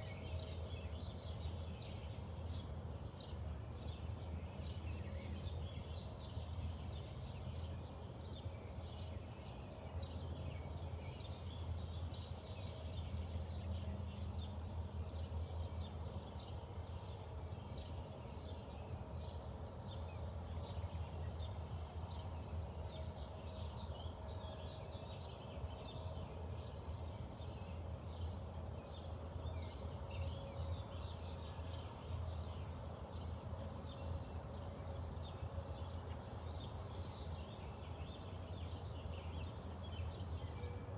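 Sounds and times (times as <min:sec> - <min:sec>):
songbirds chirping: 0:00.0 - 0:40.9
steady low hum: 0:00.0 - 0:40.9.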